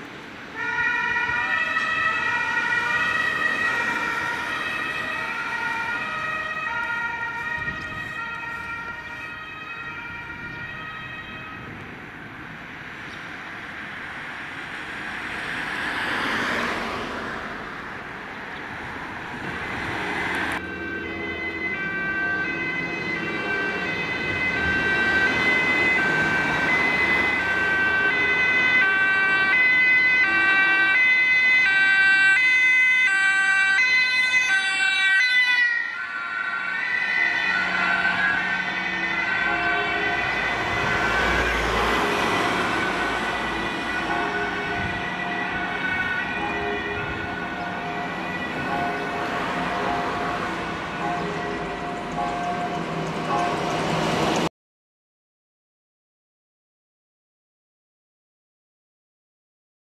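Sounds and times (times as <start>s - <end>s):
traffic noise: 0.0s - 54.5s
two-tone emergency siren: 0.5s - 17.7s, 18.6s - 54.5s.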